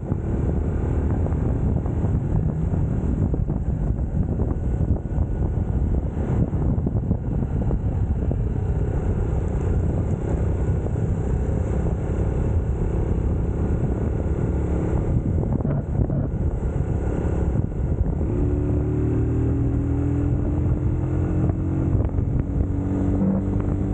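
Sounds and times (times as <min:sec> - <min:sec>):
motorcycle engine rumble: 0:00.0 - 0:23.9
road noise: 0:00.0 - 0:23.9.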